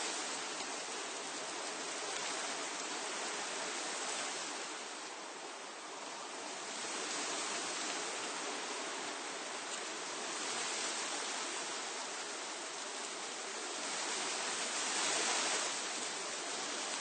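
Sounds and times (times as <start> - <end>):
wind rustling tree leaves: 0.0 - 17.0.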